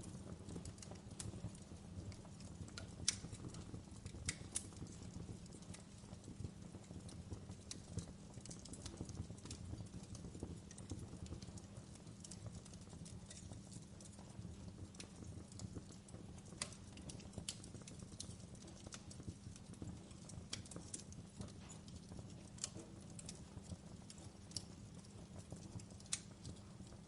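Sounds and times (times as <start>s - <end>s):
low rumble of burning: 0.0s - 27.0s
wood fire crackling: 0.0s - 27.0s.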